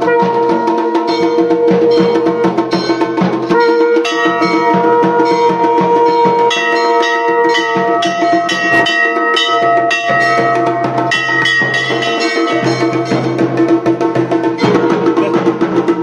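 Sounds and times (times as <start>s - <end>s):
drumming: 0.0s - 16.0s
temple bells ringing: 0.0s - 16.0s.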